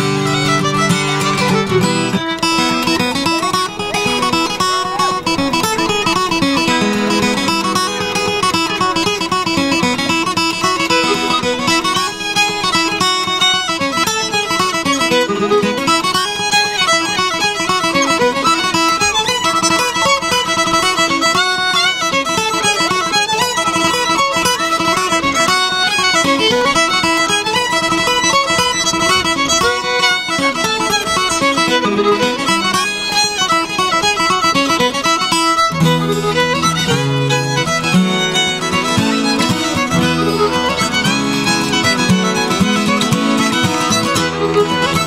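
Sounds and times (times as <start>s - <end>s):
acoustic guitar accompaniment: 0.0s - 45.0s
fiddle playing a tune: 0.0s - 45.0s.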